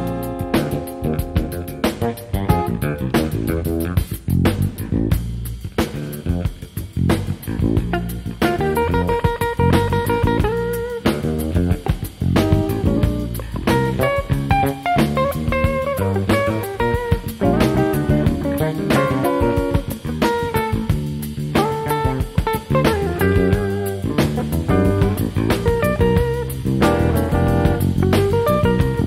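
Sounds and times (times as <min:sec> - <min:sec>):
drum kit beat: 0:00.0 - 0:29.0
electric bass: 0:00.0 - 0:29.0
electric guitar lines: 0:00.0 - 0:29.0.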